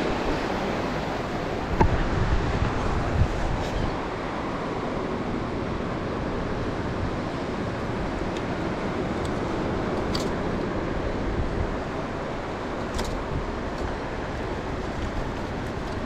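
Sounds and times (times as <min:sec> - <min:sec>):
surf rushing: 0:00.0 - 0:16.0
wind: 0:00.0 - 0:16.0.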